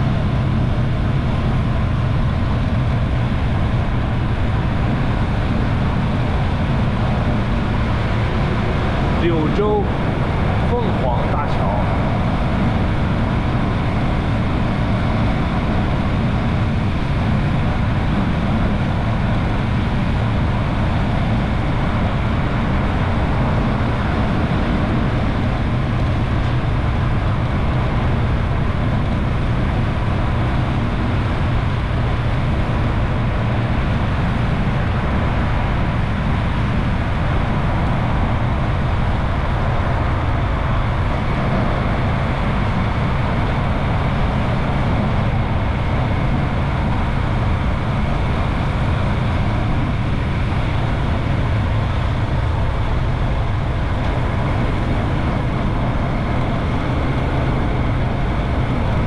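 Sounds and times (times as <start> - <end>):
motorcycle engine drone: 0.0 - 59.0
wind and road noise: 0.0 - 59.0.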